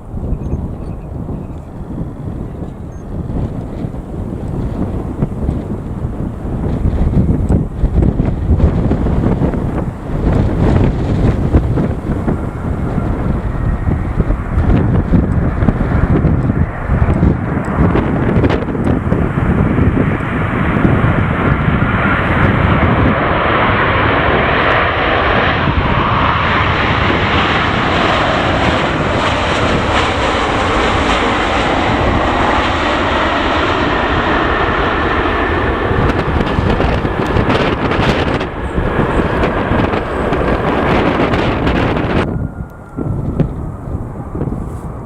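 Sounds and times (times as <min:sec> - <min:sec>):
airliner engines passing: 0:00.0 - 0:45.0
wind buffeting microphone: 0:00.0 - 0:45.0.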